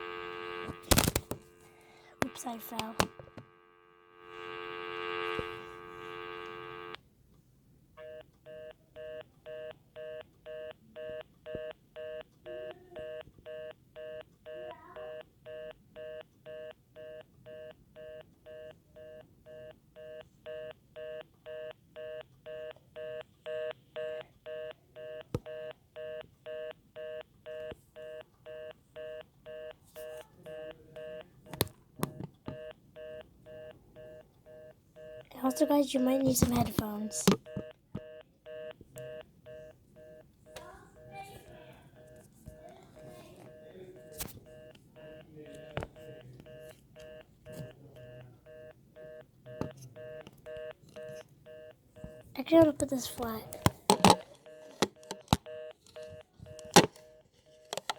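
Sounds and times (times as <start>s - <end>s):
two-tone phone ringtone beeps: 0.0s - 7.0s, 8.0s - 31.4s, 32.1s - 57.9s.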